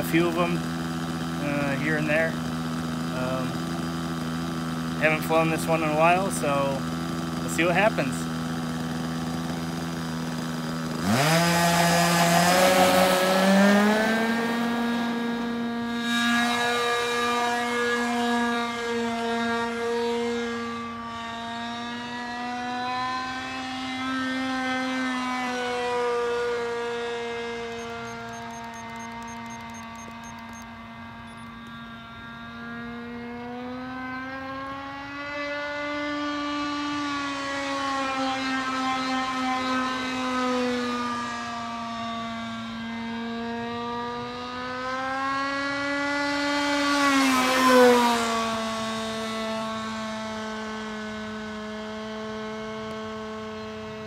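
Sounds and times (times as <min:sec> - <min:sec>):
model airplane engine buzzing: 0:00.0 - 0:54.0.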